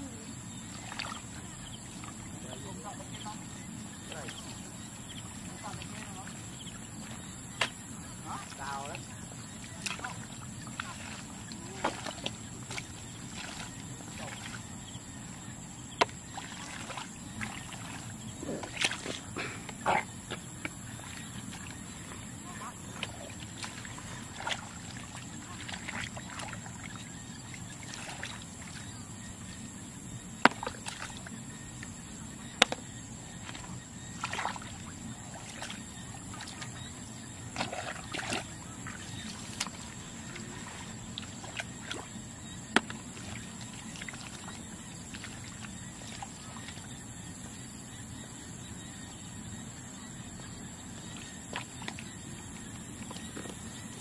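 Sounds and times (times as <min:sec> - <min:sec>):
water sloshing and splashing: 0:00.0 - 0:54.0.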